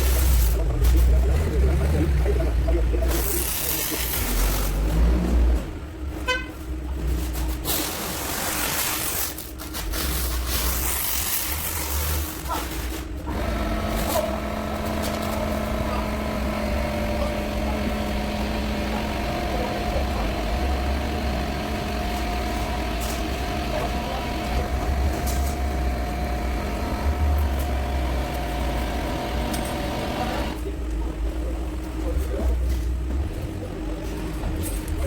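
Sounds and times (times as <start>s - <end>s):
engine droning: 0.0s - 6.1s, 13.0s - 35.0s.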